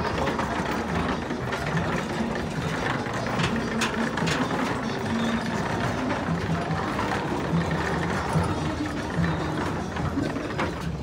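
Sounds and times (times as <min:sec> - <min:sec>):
footsteps on metal gangway: 0:00.0 - 0:11.0.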